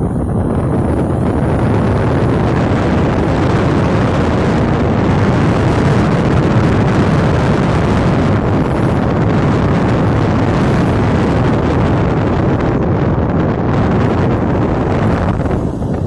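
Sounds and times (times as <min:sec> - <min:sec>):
road noise: 0:00.0 - 0:16.0
scooter engine: 0:00.0 - 0:16.0
wind buffeting microphone: 0:00.0 - 0:16.0.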